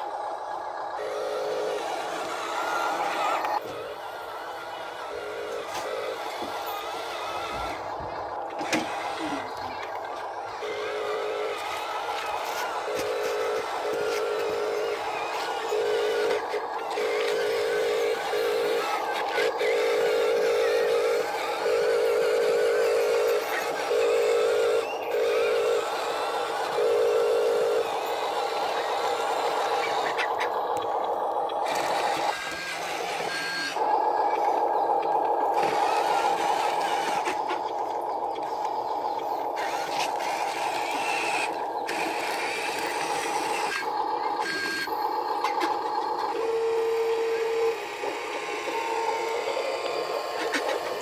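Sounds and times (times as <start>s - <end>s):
toy truck electric motor whine: 0.0s - 51.0s.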